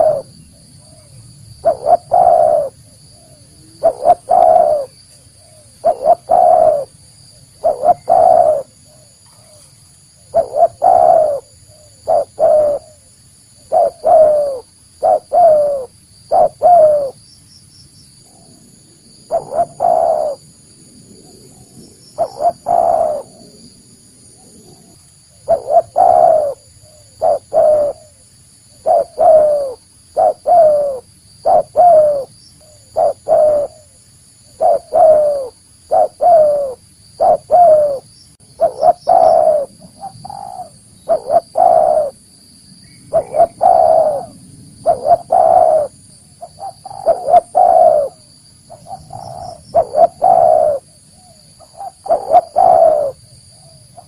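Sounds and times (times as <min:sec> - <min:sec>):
dove cooing: 0:00.0 - 0:17.2, 0:19.2 - 0:20.5, 0:21.2 - 0:23.7, 0:24.3 - 0:42.2, 0:43.1 - 0:54.0.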